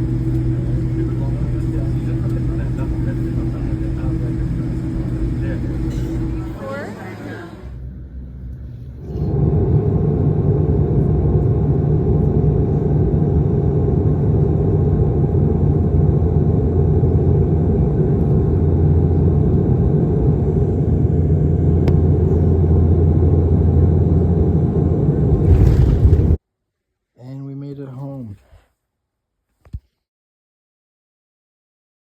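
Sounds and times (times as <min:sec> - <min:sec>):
faint steady hum: 0:00.0 - 0:26.4
moving vehicle low rumble: 0:00.0 - 0:26.4.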